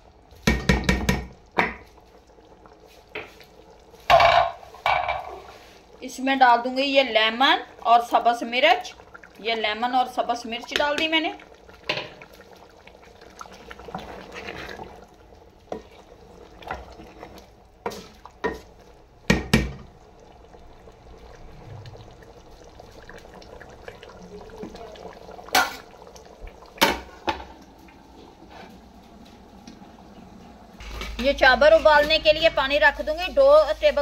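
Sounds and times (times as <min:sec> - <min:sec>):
pot simmering and bubbling: 0:00.0 - 0:34.0.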